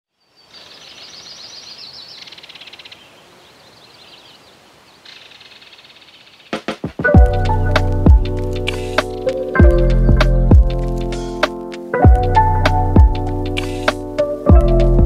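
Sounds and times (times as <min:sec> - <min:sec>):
faint outdoor hiss: 0:00.1 - 0:15.0
songbirds chirping and trilling: 0:00.1 - 0:15.0.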